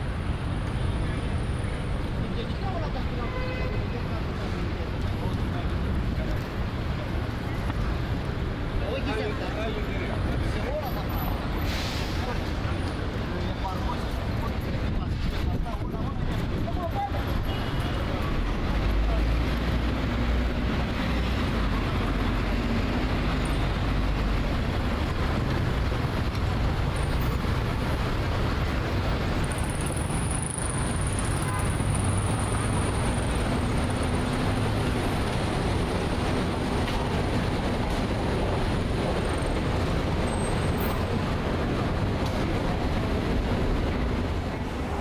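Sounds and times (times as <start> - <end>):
road traffic hum: 0.0 - 45.0.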